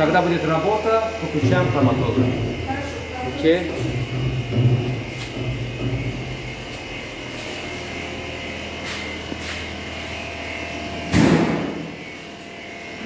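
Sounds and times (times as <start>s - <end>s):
lab equipment humming: 0.0s - 13.0s.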